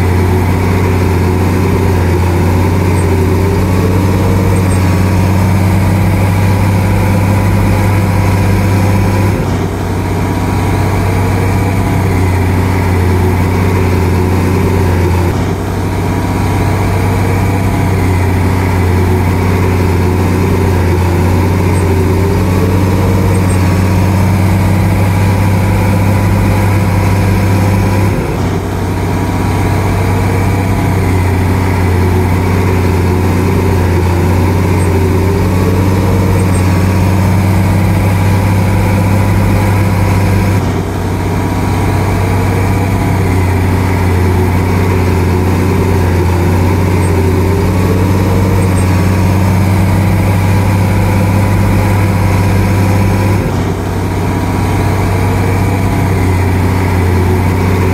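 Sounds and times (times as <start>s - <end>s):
bulldozer diesel engine under load: 0.0s - 57.9s.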